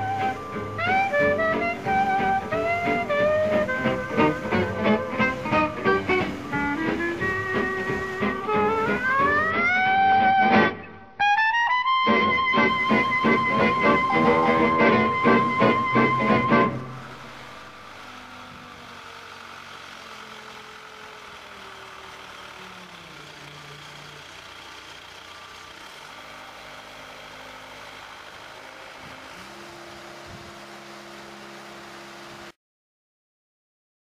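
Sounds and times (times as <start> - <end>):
travel lift engine running: 0.0 - 11.2, 11.9 - 32.6.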